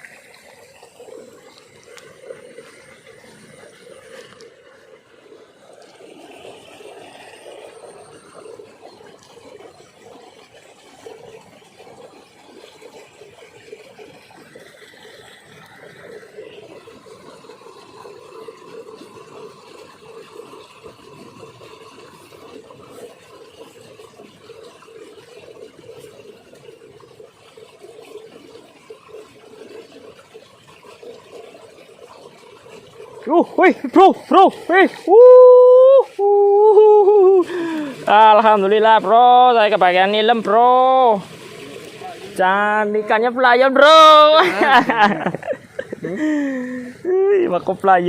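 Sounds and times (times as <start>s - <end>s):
water rushing along channel: 0.0s - 48.0s.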